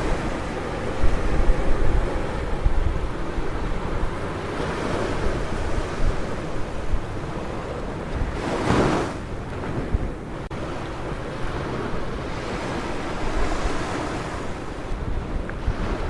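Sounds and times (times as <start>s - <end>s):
low wind rumble on microphone: 0.0s - 16.0s
ocean surf breaking on beach: 0.0s - 16.0s
wave crashing: 0.0s - 16.0s.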